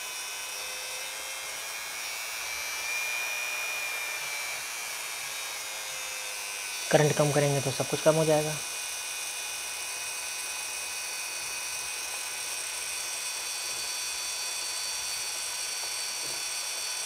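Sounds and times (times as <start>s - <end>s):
electric motor high whine: 0.0s - 17.0s.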